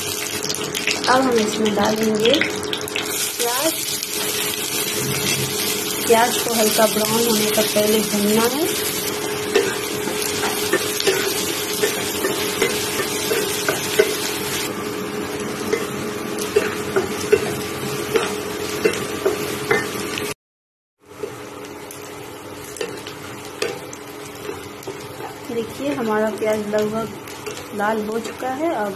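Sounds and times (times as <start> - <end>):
onions sizzling in oil: 0.0 - 20.4, 21.0 - 28.9.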